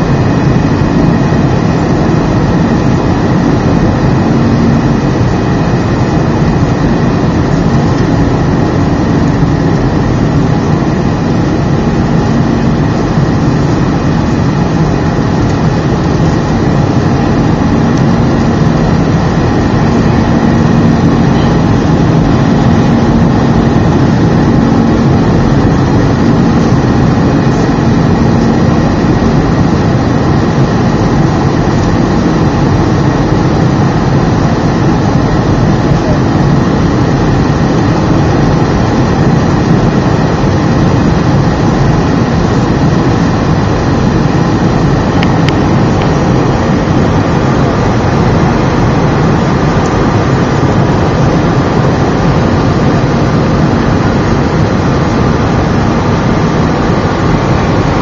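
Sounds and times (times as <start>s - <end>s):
aircraft cabin engine noise: 0.0s - 58.0s
low hum: 0.0s - 58.0s.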